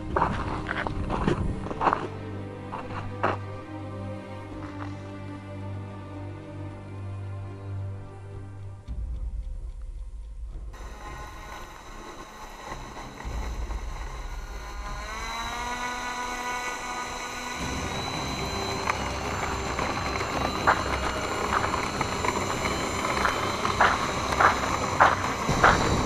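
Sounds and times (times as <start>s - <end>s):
model plane electric motor whine: 0.0s - 6.4s, 10.8s - 26.0s.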